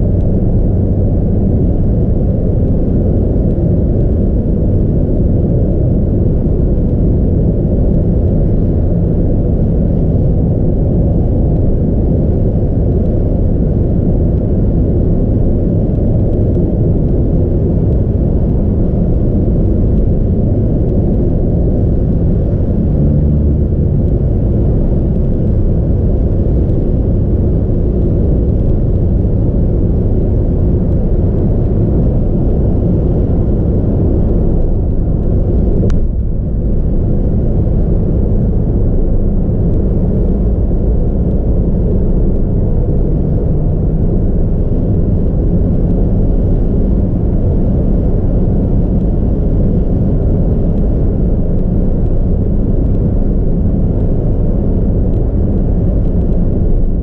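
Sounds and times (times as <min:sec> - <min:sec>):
car driving road noise: 0:00.0 - 0:57.0.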